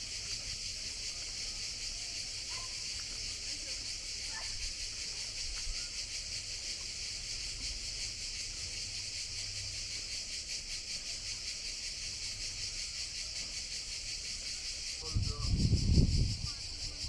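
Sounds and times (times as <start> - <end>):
cicadas singing: 0.0 - 17.0.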